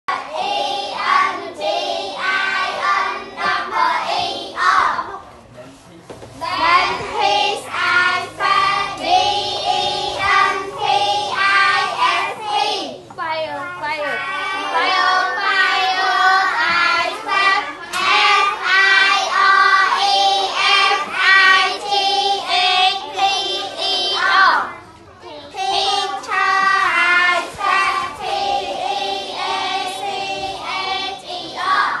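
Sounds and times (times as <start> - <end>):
children chanting in unison: 0.1 - 5.2, 6.4 - 13.0, 14.2 - 24.8, 25.4 - 32.0.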